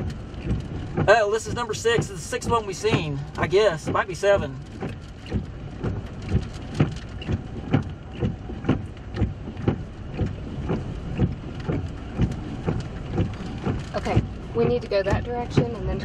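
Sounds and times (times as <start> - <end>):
short thumps: 0.0 - 16.0
wind and rain rushing: 0.0 - 16.0.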